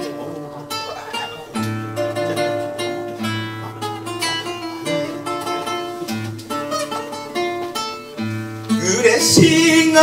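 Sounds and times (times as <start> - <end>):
classical guitar melody: 0.0 - 10.0.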